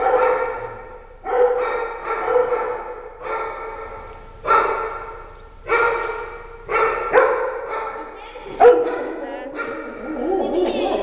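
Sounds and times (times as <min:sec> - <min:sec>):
dogs barking in echoing shed: 0:00.0 - 0:11.0.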